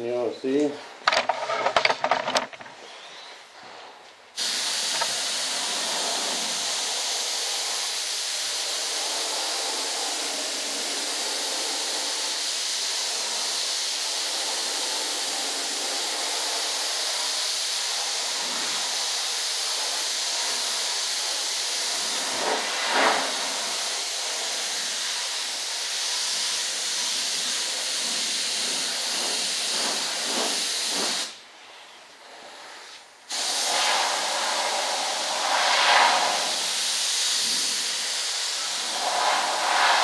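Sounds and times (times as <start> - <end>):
paint spray gun hissing: 4.4 - 31.4, 33.3 - 40.0.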